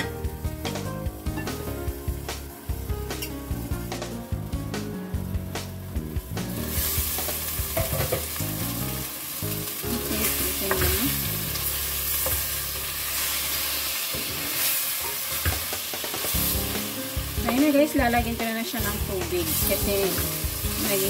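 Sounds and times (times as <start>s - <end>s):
chicken sizzling in a pot: 0.0s - 21.0s.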